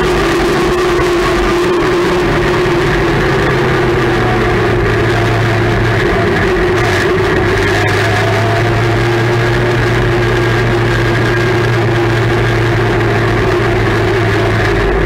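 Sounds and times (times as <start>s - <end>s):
race car engine drone: 0.0s - 15.0s.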